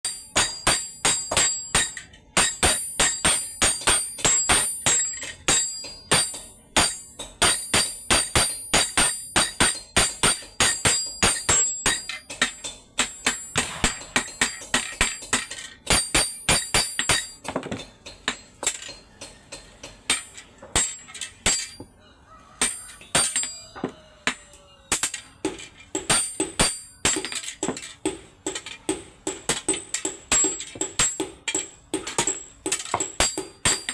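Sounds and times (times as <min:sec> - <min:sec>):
hammer on anvil: 0:00.0 - 0:21.9, 0:22.6 - 0:33.9.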